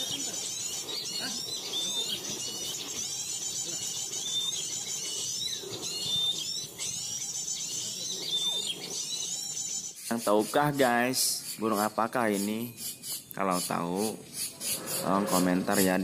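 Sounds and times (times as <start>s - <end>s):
small birds chattering and chirping: 0.0s - 16.0s.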